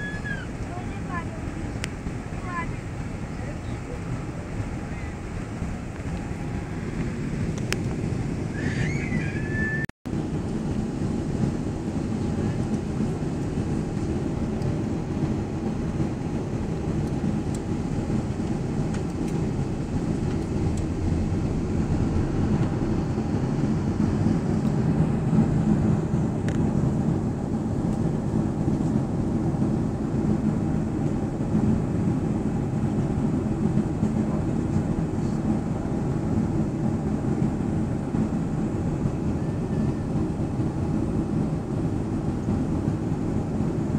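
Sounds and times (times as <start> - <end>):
airliner cabin engine rumble: 0.0 - 43.9.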